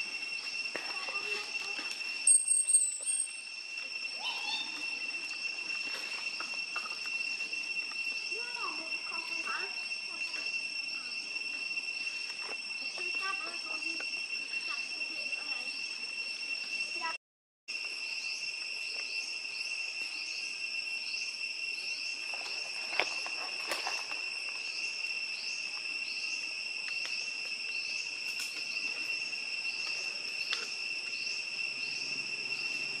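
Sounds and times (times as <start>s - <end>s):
forest insects whining and chirping: 0.0s - 33.0s.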